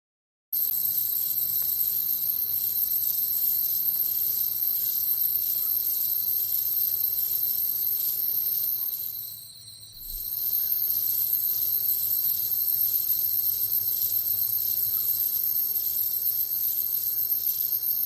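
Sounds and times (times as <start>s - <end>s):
crickets trilling: 0.6s - 18.0s.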